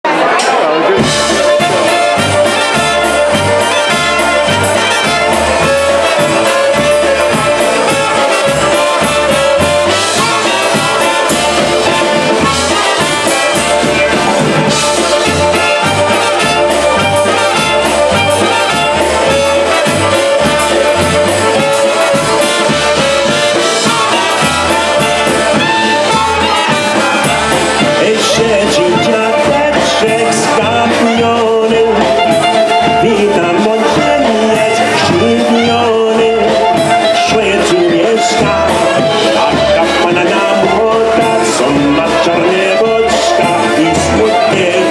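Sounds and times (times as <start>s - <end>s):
polka band playing: 0.0s - 44.9s
pulsing bass beat: 1.0s - 44.9s
trumpets and clarinet melody: 1.0s - 44.9s.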